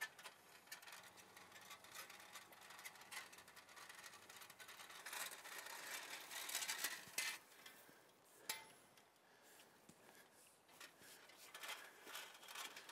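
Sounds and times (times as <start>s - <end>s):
faint scratchy rustling: 0.0s - 12.9s.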